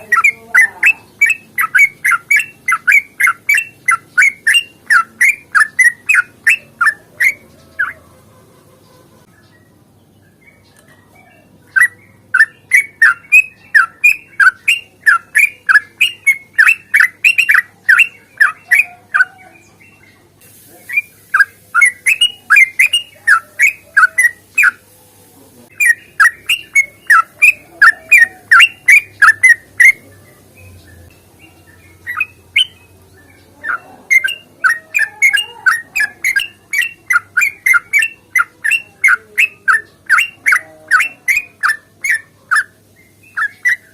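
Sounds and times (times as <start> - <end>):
bird chattering song: 0.0 - 24.9, 25.6 - 43.9.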